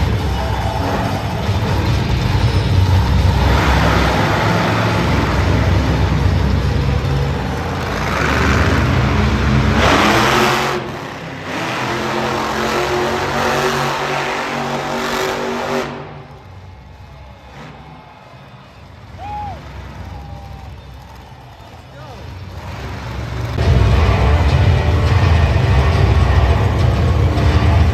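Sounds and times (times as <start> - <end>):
monster truck engine revving: 0.0 - 27.9.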